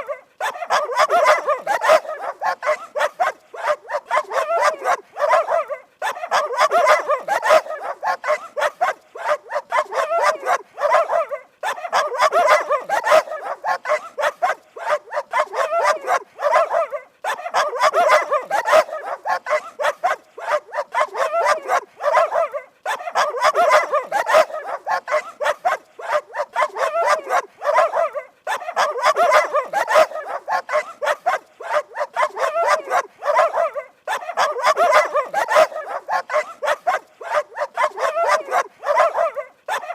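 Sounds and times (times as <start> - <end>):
dogs barking rapidly: 0.0 - 39.9.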